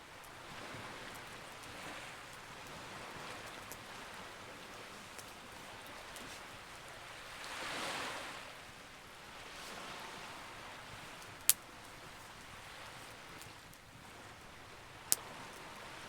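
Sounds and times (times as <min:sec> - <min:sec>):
waves washing in: 0:00.3 - 0:16.0.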